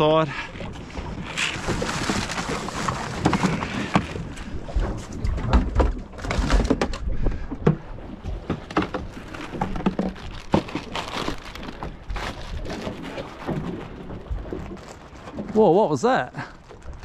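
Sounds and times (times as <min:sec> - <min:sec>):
wind rumble on microphone: 0:00.6 - 0:15.6.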